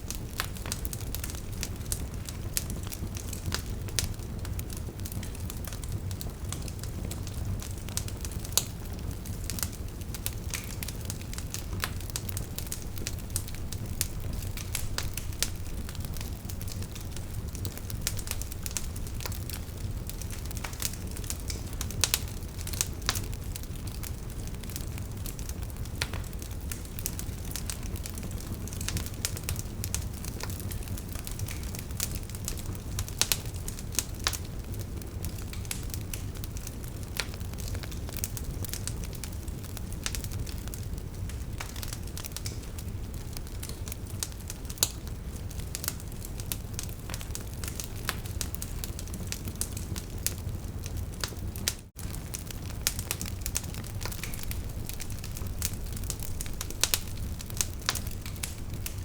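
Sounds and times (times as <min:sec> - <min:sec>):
rumble of flames: 0:00.0 - 0:59.0.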